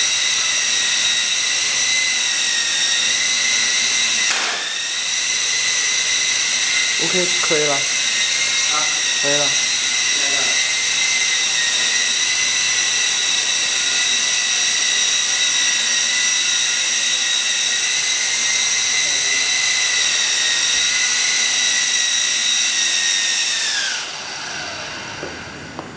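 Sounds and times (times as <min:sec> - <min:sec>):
toy helicopter rotors whining: 0:00.0 - 0:25.2.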